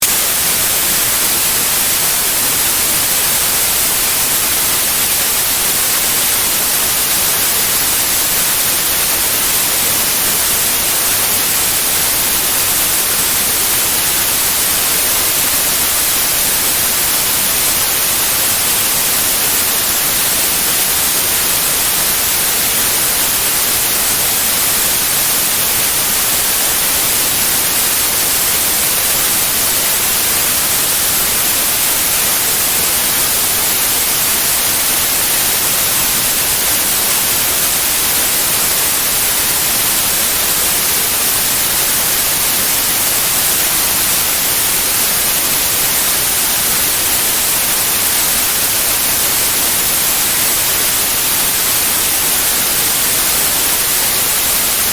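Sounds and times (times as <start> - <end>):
white noise hiss: 0.0 - 54.9.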